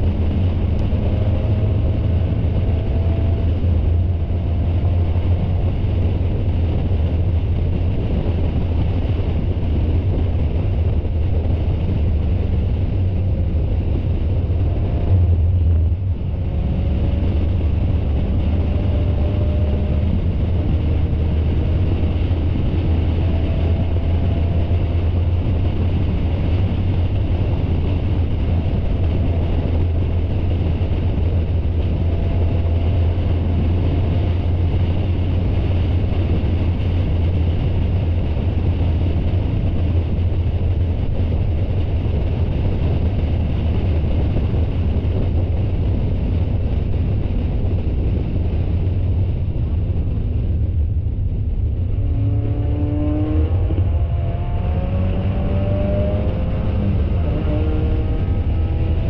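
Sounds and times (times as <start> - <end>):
race car engine drone: 0.0 - 59.0
wind and road noise: 0.0 - 59.0.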